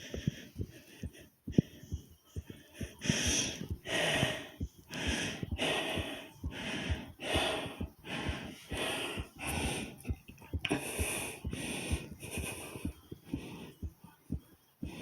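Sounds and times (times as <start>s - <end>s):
fast heavy breathing: 0.0s - 15.0s
racing heartbeat thumps: 0.0s - 15.0s.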